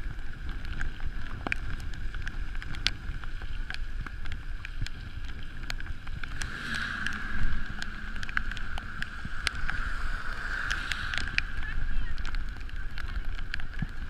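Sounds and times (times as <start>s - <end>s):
small clicks and rattles: 0.0s - 9.8s, 10.6s - 14.0s
bicycle rolling on pavement: 0.0s - 14.0s
wind buffeting microphone: 0.0s - 14.0s.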